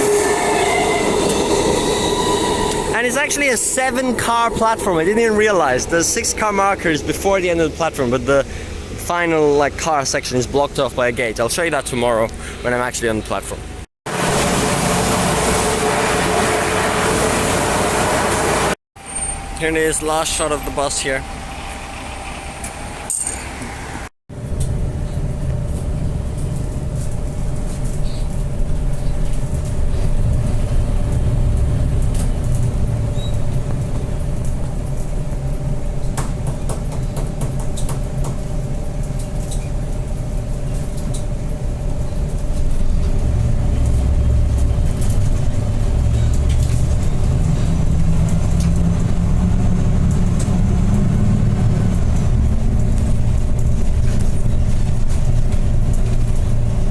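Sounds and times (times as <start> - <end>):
bus engine droning: 0.0 - 36.4, 38.8 - 56.9
road rumble: 0.0 - 56.9.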